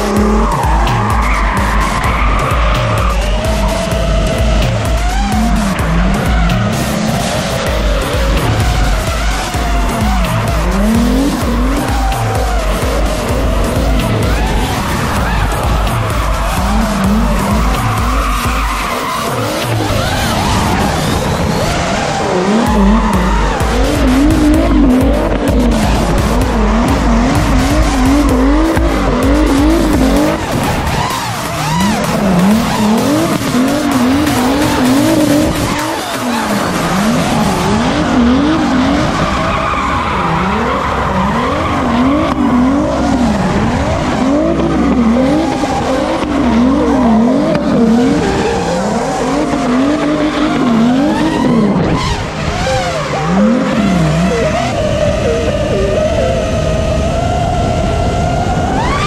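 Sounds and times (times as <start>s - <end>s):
tyres squealing: 0.0s - 56.2s
car engine revving: 0.0s - 59.0s.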